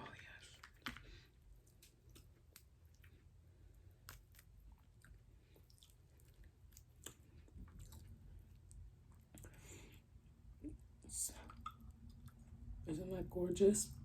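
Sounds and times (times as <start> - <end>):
faint chewing: 0.4 - 12.7.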